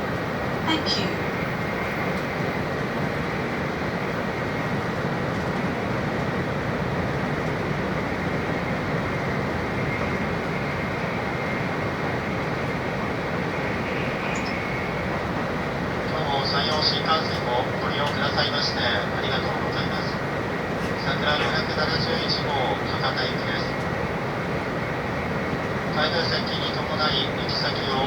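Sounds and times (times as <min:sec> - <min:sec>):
train interior rumble: 0:00.0 - 0:28.0.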